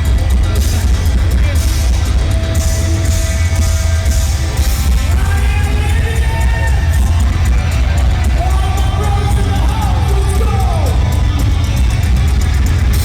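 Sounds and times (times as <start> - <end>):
live heavy metal band: 0.0 - 13.0.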